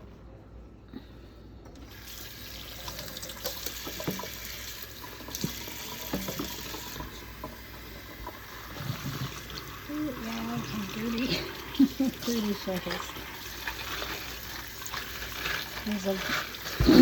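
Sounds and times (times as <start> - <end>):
tap water running into sink: 1.8 - 17.0.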